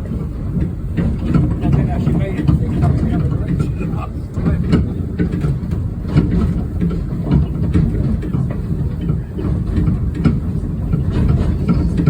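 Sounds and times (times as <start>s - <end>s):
train carriage rumbling on track: 0.0s - 12.0s.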